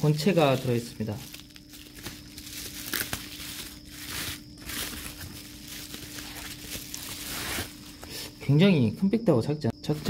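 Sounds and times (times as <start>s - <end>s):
bubble wrap crinkling: 0.0s - 8.2s.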